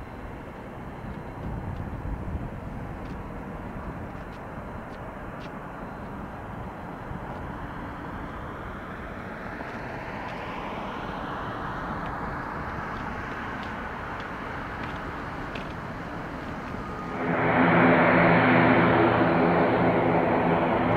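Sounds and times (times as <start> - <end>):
turboprop engines droning: 0.0 - 20.9.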